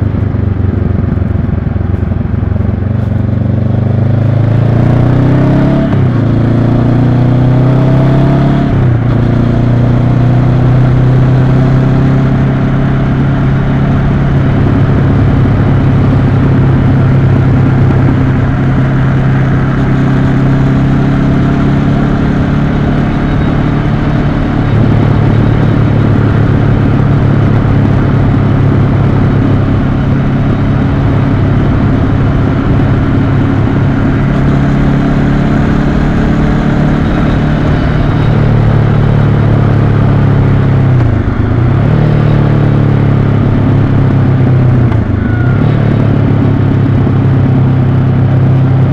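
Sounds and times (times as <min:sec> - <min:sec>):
motorcycle engine running: 0:00.0 - 0:48.9
wind and road noise: 0:00.0 - 0:48.9.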